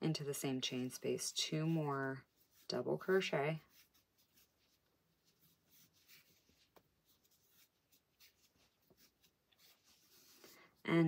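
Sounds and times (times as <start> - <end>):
crochet hook scratching yarn: 0.2 - 11.0.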